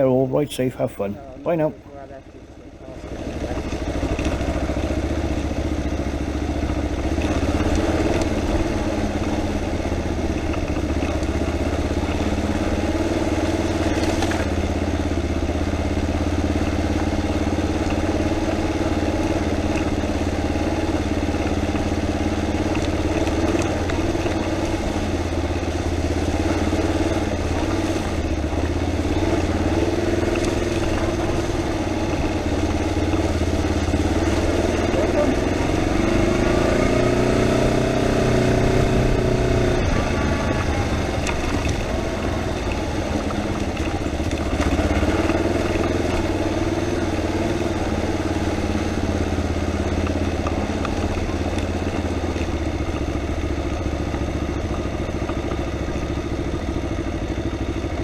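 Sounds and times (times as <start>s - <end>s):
motorcycle engine running: 1.1s - 58.0s.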